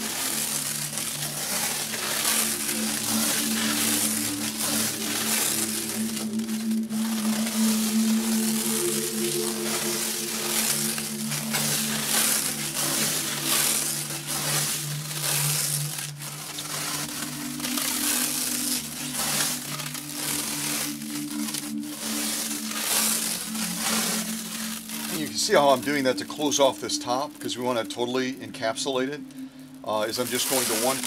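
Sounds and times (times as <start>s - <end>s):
stretch wrap crackling and tearing: 0.0s - 31.0s.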